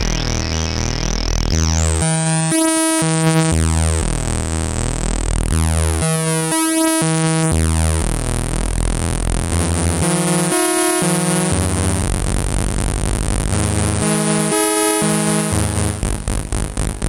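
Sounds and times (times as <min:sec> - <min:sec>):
buzzy analog synthesizer notes: 0:00.0 - 0:17.0.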